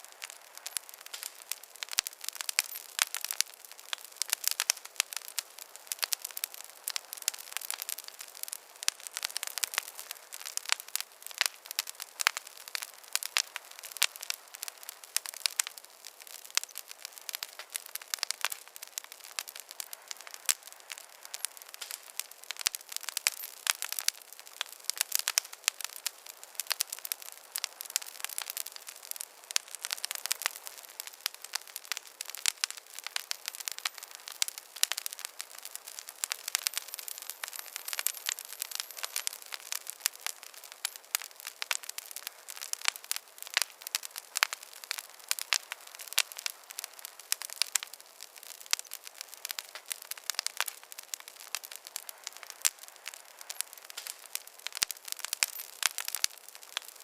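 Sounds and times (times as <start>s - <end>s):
faint hiss: 0.0s - 57.0s
wood fire crackling and popping: 0.0s - 57.0s.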